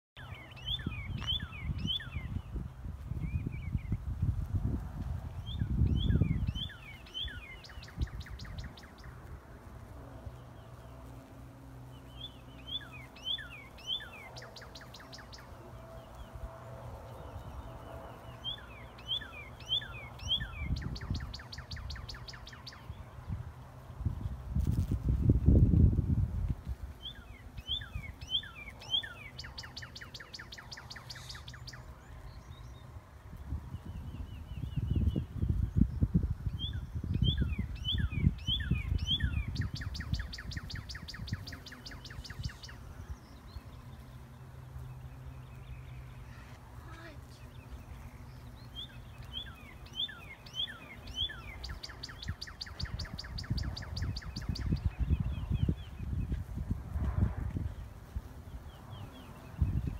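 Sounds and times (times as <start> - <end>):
songbird singing: 0.2 - 59.9.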